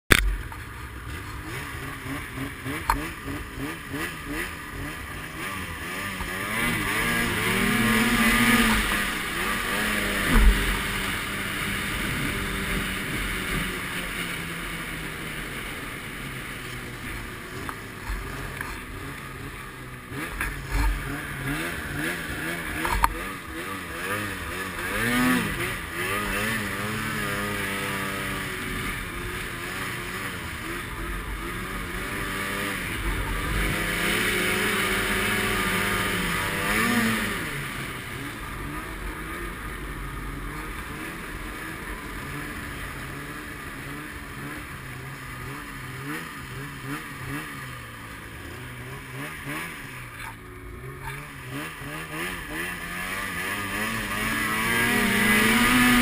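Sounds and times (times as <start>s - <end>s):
snowmobile engine revving: 0.3s - 56.0s.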